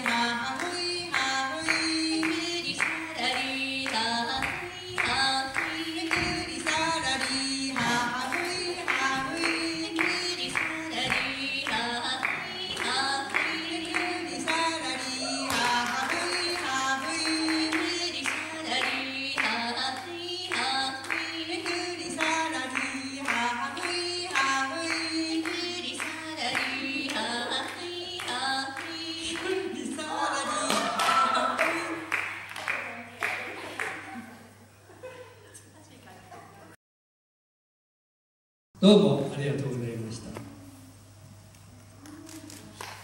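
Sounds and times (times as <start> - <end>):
women singing together: 0.0 - 34.5.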